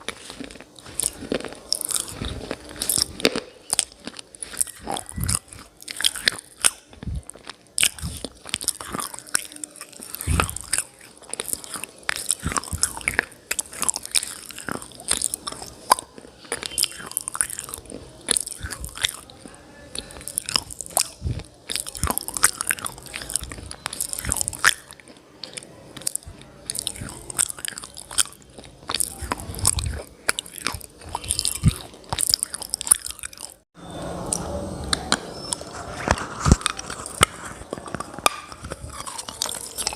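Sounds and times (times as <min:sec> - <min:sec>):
crunchy chewing: 0:00.0 - 0:33.7, 0:34.3 - 0:39.9.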